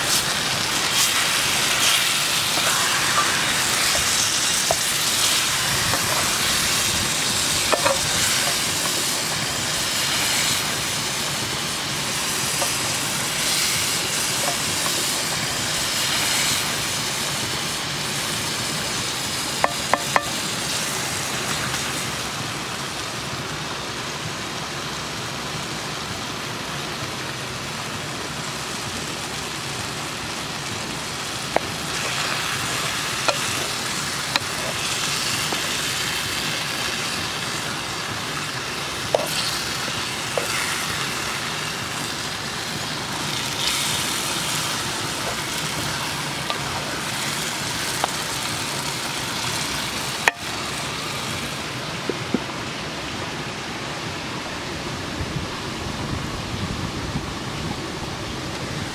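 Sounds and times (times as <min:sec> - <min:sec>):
stew sizzling in metal pot: 0:00.0 - 0:53.2.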